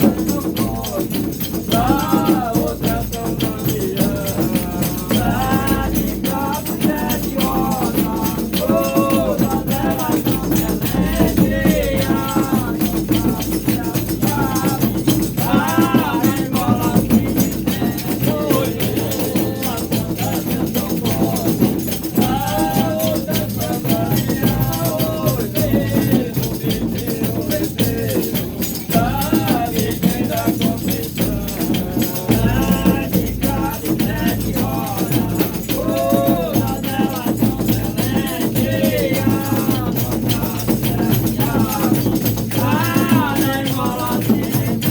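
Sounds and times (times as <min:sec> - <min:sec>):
rattling percussion: 0:00.0 - 0:44.9
voices singing: 0:00.0 - 0:44.9.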